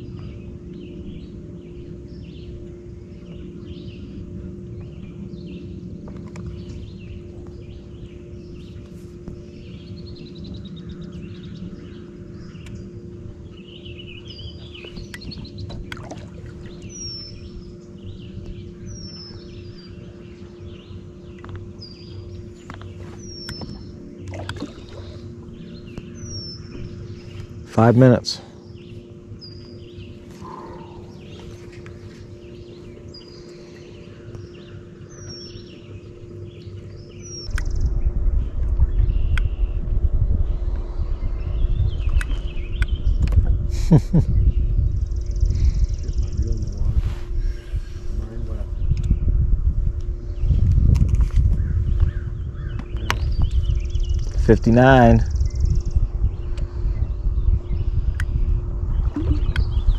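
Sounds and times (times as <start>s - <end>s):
low hum and rumble: 0.0s - 59.9s
songbirds calling and singing: 0.0s - 59.9s.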